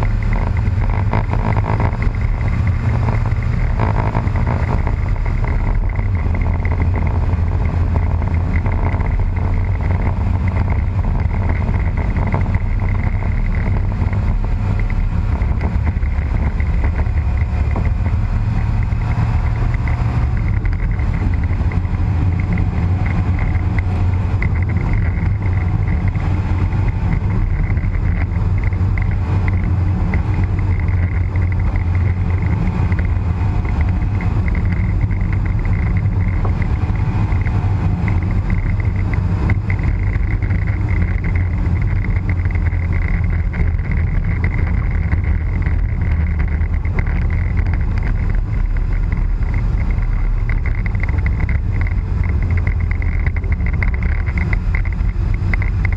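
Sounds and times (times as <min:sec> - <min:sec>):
car engine droning: 0:00.0 - 0:55.9
tyre and road noise: 0:00.0 - 0:55.9.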